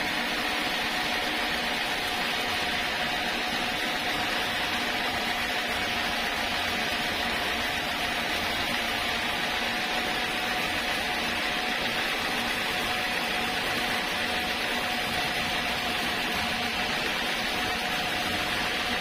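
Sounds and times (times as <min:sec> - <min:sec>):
sawmill machinery whining: 0:00.0 - 0:19.0.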